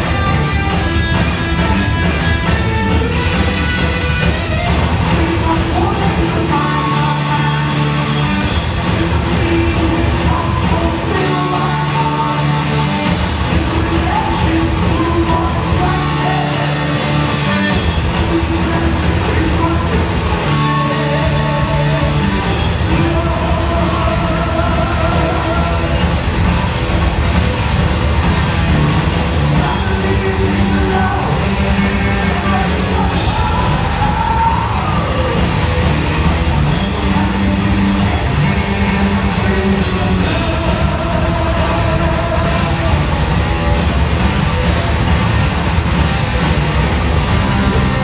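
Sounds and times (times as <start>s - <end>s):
bass guitar: 0.0s - 48.0s
distorted electric guitar: 0.0s - 48.0s
fast driving drums: 0.0s - 48.0s.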